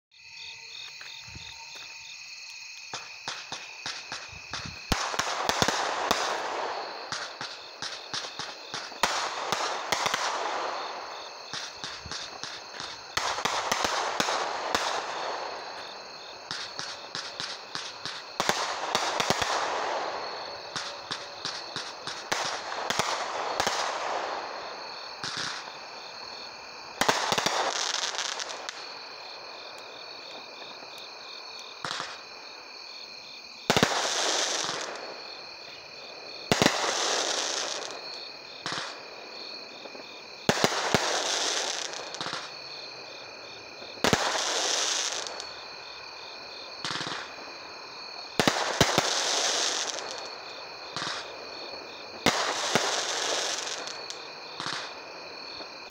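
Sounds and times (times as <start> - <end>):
firework hiss and crackle: 0.2 - 55.9
firework bangs: 2.9 - 29.1, 31.7 - 32.4, 33.6 - 45.8, 46.4 - 55.9.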